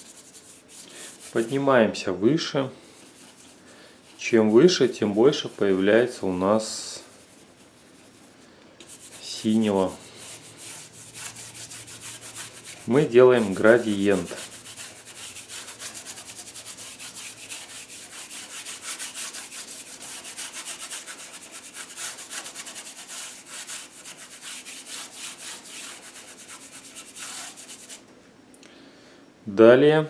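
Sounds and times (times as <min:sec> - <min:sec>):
brush scrubbing paint on canvas: 0:00.0 - 0:01.8, 0:02.4 - 0:28.0.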